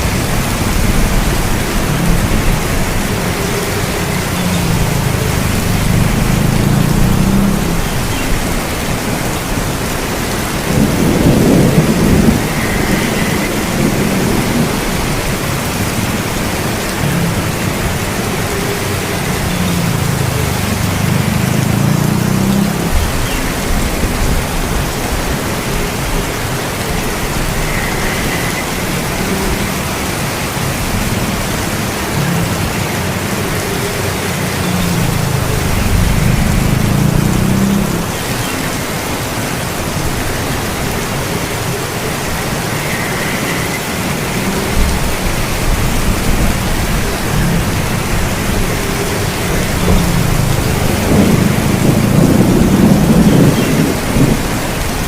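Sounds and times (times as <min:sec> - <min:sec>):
thunder rolling: 0:00.0 - 0:32.7, 0:34.5 - 0:55.0
heavy rain: 0:00.0 - 0:55.0.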